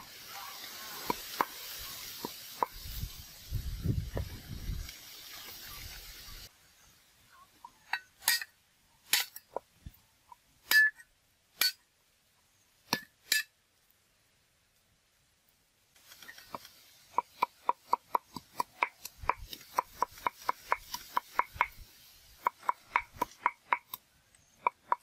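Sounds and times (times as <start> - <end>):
background noise: 0.0 - 25.0.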